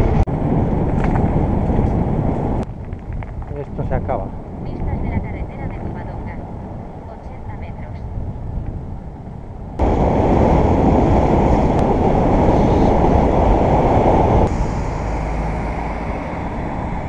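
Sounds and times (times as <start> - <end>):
tyre and road noise: 0.0 - 17.0
wind rushing over microphone: 0.0 - 17.0.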